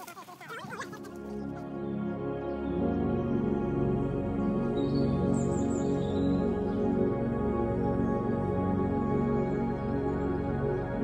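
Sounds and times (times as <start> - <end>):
calm ambient music: 0.5 - 11.0.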